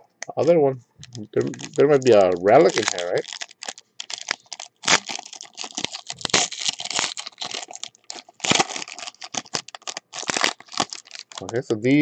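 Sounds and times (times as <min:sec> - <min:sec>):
foil wrapper crinkling and tearing: 0:01.1 - 0:11.6.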